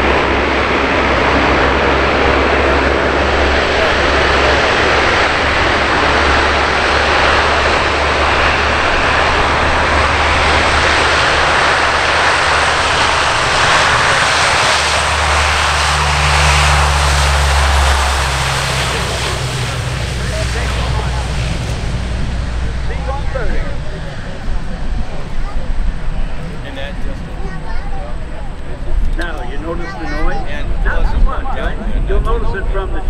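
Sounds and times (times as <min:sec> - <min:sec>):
turboprop aircraft propeller drone: 0:00.0 - 0:33.0.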